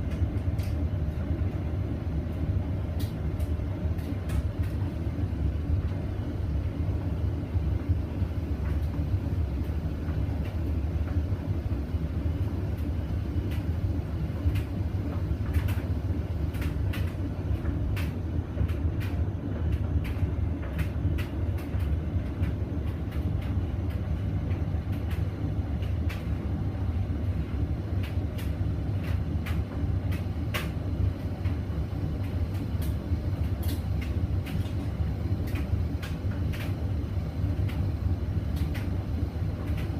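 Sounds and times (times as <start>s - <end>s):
washing machine spinning hum: 0.0s - 39.9s.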